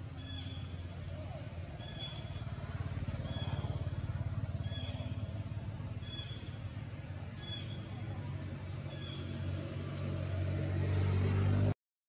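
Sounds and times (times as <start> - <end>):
engine running: 0.0 - 11.8.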